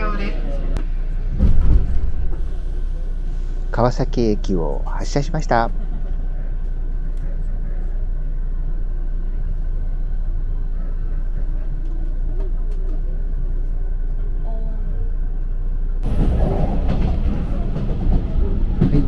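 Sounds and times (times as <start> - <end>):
electric train motors rumbling: 0.0 - 19.0.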